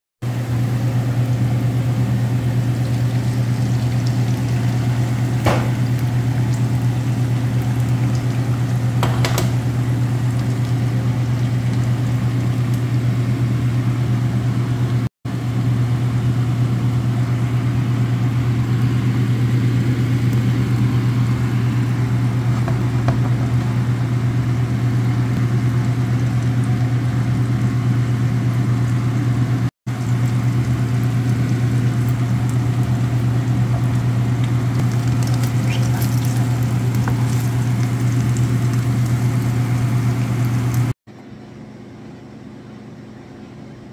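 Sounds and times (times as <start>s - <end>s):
appliance humming: 0.2s - 43.9s
egg and onion sizzling: 0.3s - 13.9s, 17.9s - 41.0s.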